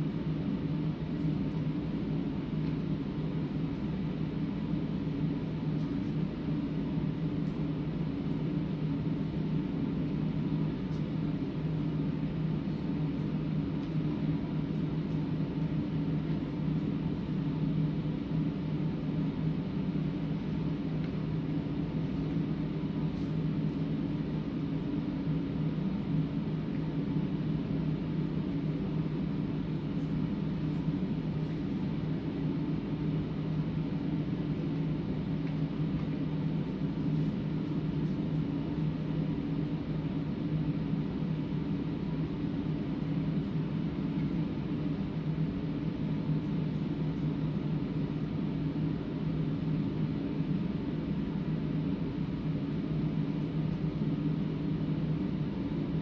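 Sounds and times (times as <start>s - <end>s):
ventilation humming: 0.0s - 56.0s.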